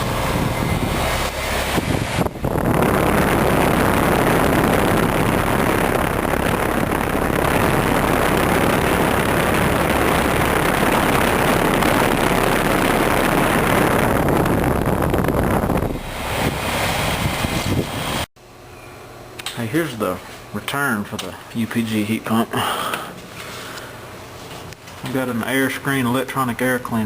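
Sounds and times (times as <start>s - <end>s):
compressor low hum: 0.0s - 27.0s
heat pump fan rushing air: 0.0s - 27.0s.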